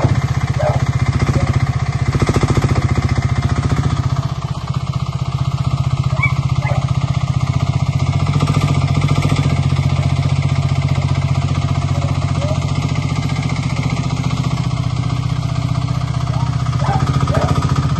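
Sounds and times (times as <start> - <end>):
loader engine chugging: 0.0 - 17.9.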